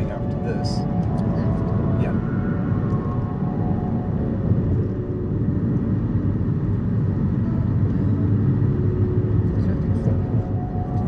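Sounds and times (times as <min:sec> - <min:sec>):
car driving rumble: 0:00.0 - 0:11.0.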